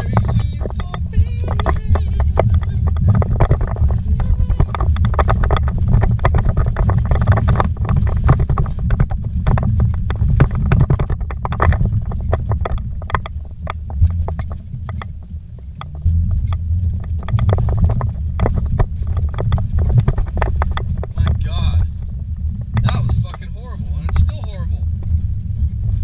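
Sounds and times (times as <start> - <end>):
engine and tyres rumbling: 0.0 - 26.0
knocks and rattles over bumps: 0.0 - 26.0.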